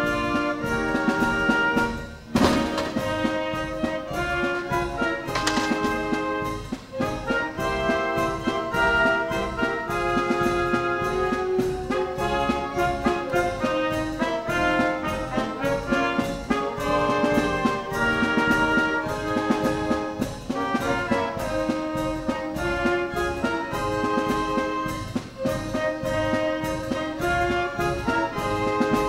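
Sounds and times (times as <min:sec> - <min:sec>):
brass band music: 0:00.0 - 0:29.0.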